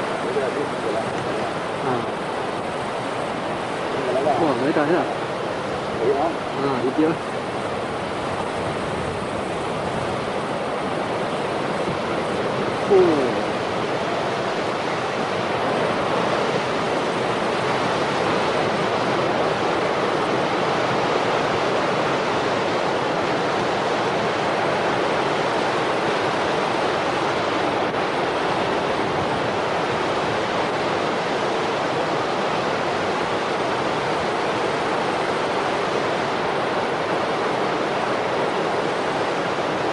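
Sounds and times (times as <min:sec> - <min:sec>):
waves crashing against rocks: 0:00.0 - 0:39.9.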